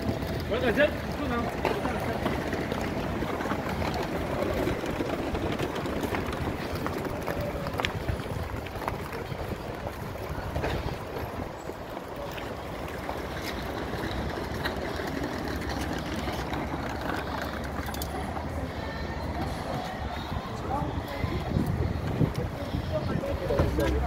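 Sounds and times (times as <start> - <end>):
wind buffeting microphone: 0.0 - 15.6, 19.5 - 24.0.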